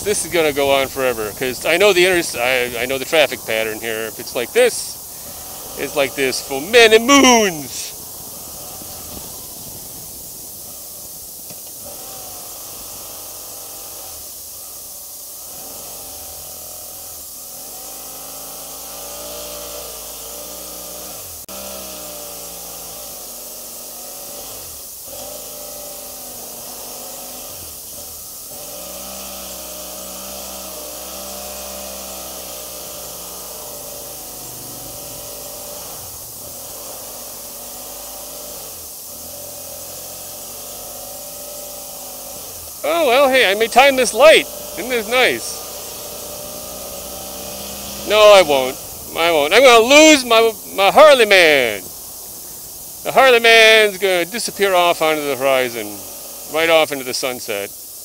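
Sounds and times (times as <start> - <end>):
wind hiss on microphone: 0.0 - 57.9
motorcycle engine running: 0.0 - 58.0.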